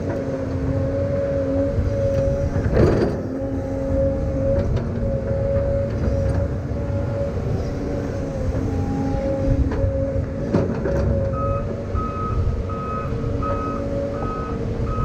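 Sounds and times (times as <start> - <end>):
heavy machine engine rumble: 0.0 - 15.0.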